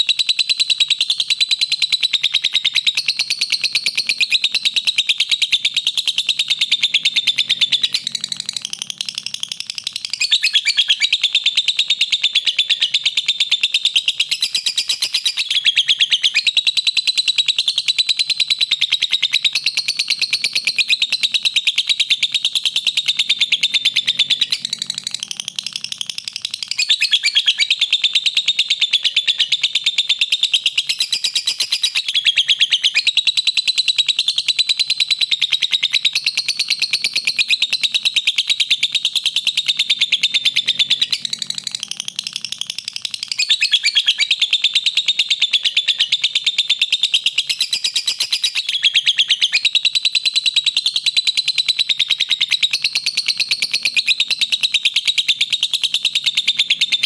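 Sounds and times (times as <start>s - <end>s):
lovebird chattering trill: 0.0s - 57.0s.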